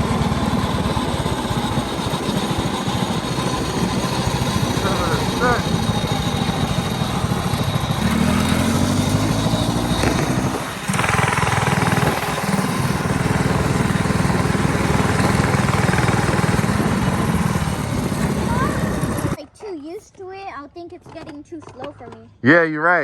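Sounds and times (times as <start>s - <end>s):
mini bike engine revving: 0.0s - 19.4s.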